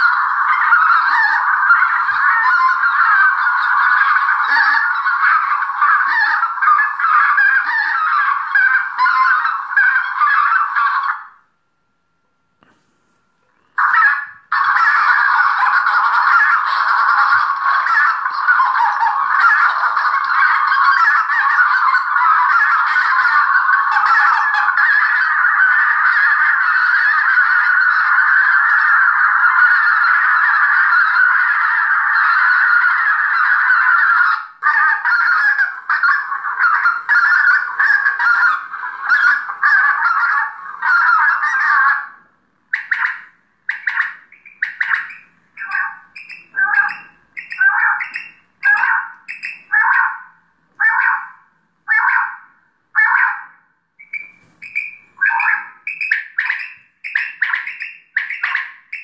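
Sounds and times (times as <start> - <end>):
geese honking through loudspeaker: 0.0 - 11.5, 13.8 - 59.0.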